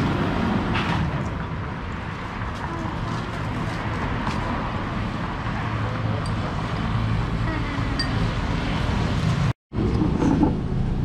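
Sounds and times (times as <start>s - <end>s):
cars and motorbikes passing: 0.0s - 11.0s.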